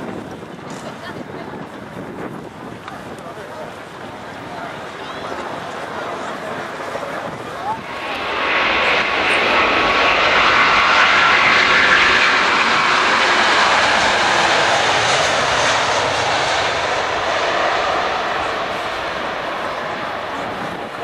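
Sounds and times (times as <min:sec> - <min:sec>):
faint jet engine whine: 0:00.1 - 0:21.0
jet airliner passing: 0:00.1 - 0:21.0.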